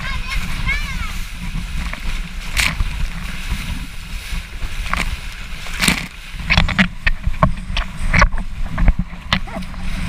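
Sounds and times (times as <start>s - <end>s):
sharp water splashes: 0.0s - 10.0s
wind buffeting microphone: 0.0s - 10.0s.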